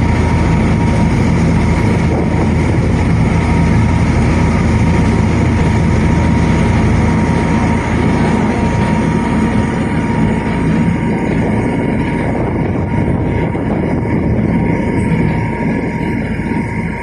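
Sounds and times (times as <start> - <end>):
boat engine droning: 0.0 - 17.0
faint steady whine: 0.0 - 17.0.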